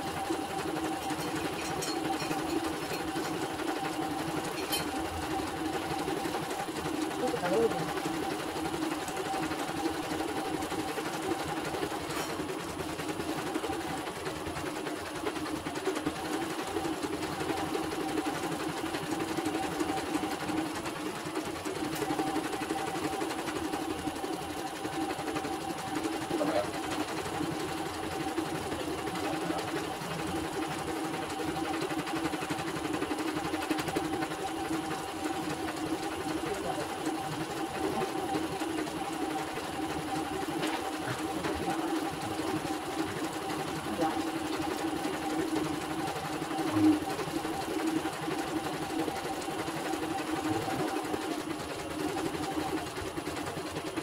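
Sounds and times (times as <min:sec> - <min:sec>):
mechanical hum: 0:00.0 - 0:53.6.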